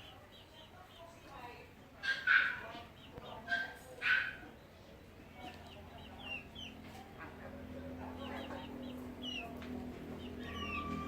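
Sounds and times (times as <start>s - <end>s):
chickens chirping: 0.0s - 11.0s.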